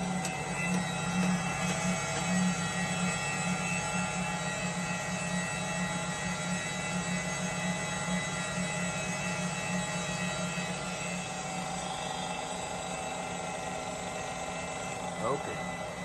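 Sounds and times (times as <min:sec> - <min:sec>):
grinder machine humming: 0:00.0 - 0:16.0.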